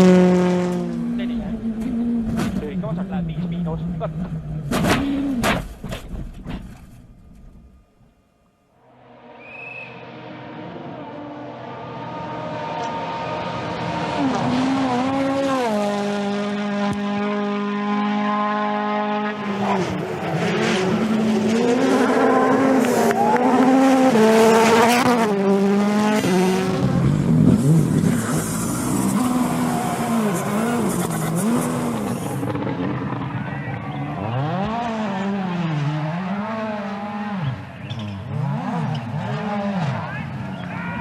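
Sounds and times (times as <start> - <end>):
rally car engine revving: 0.0 - 6.8, 10.1 - 41.0.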